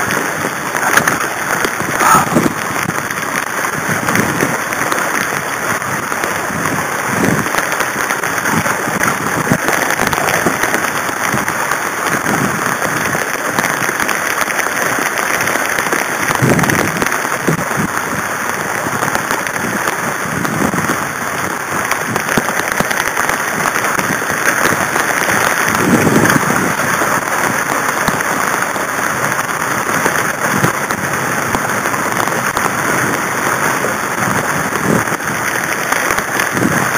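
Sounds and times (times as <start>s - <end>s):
gusts and water surging: 0.0s - 36.9s
heavy rain pattering on boat: 0.0s - 36.9s.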